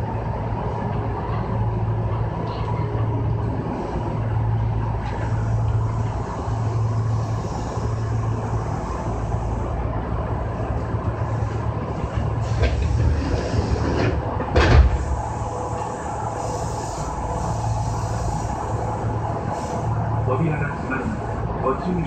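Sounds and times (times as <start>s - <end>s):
wheels rolling on rail: 0.0s - 20.3s
train motor hum: 0.0s - 22.0s.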